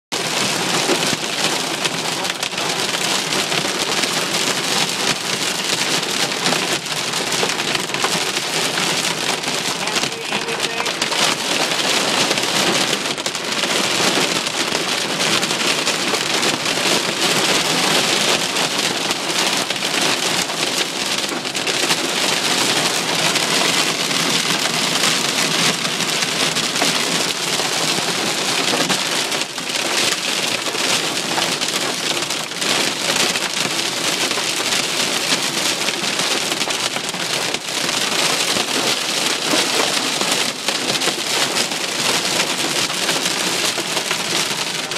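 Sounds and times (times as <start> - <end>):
rain and hail on car roof: 0.1 - 44.9.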